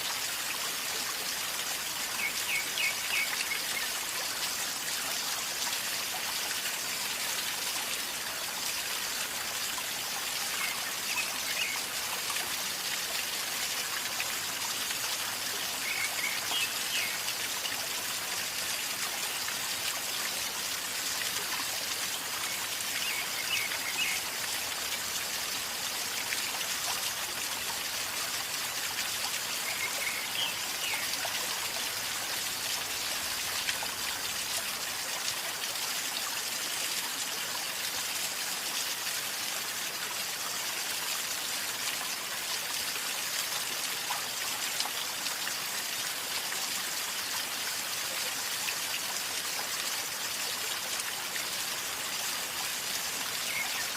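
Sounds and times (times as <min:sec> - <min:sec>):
river flowing and gurgling: 0:00.0 - 0:53.9.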